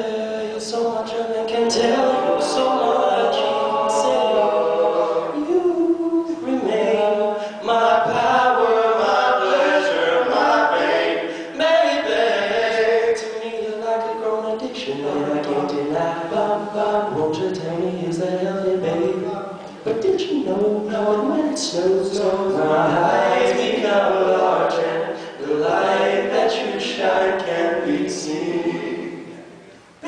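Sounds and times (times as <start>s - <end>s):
male a cappella quartet singing: 0.0s - 29.6s.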